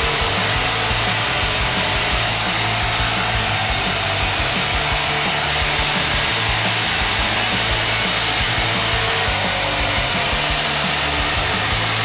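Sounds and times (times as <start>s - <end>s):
band saw cutting log: 0.0s - 12.0s.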